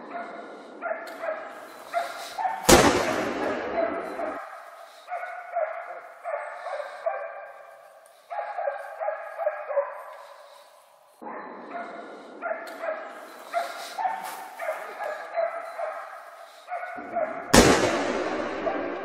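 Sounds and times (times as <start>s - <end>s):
dogs barking and baying: 0.0s - 19.0s.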